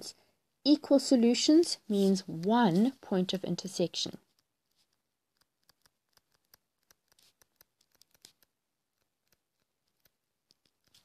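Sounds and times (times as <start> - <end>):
stylus scratching on tablet screen: 1.9 - 11.0.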